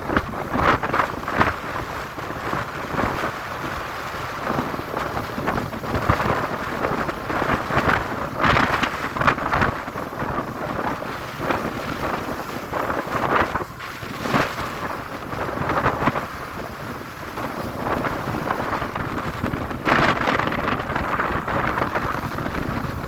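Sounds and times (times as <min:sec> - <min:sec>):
gusty wind buffeting microphone: 0:00.0 - 0:23.0.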